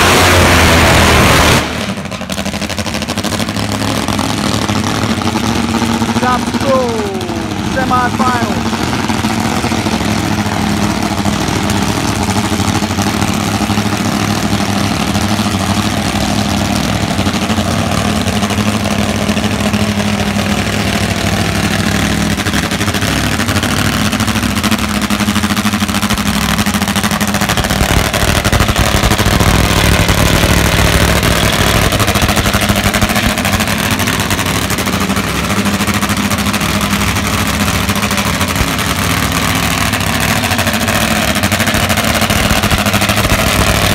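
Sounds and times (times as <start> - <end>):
motorcycle engines idling loudly: 0.0 - 43.9.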